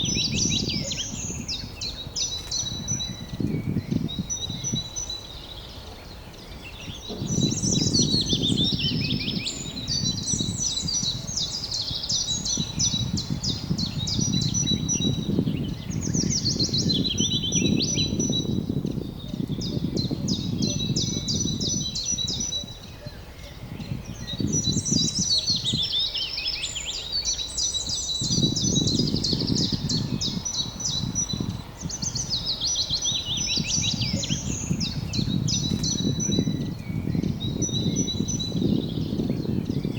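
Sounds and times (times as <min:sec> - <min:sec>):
low rumble in gusts: 0:00.0 - 0:26.0, 0:27.5 - 0:39.9
songbird singing falling phrase: 0:00.0 - 0:39.9.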